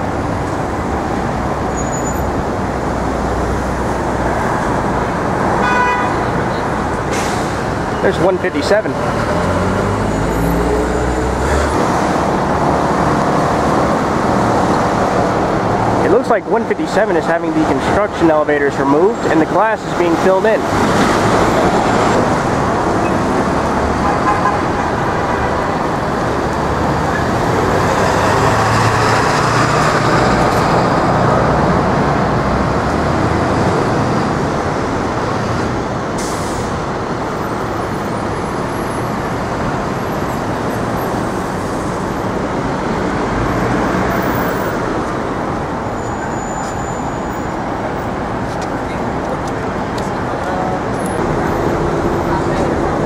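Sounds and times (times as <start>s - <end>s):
passing cars and vehicles: 0.0s - 53.0s.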